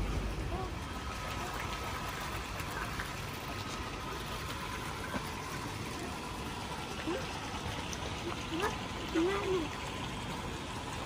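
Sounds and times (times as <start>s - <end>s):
pond aerator humming: 0.0s - 11.0s
water churning: 0.0s - 11.0s.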